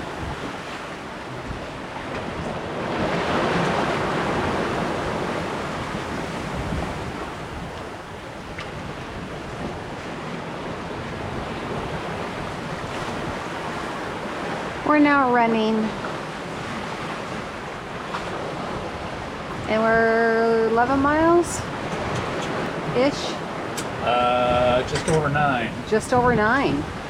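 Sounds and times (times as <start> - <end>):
waves washing past a hull: 0.0 - 27.0
wind buffeting microphone: 0.0 - 27.0.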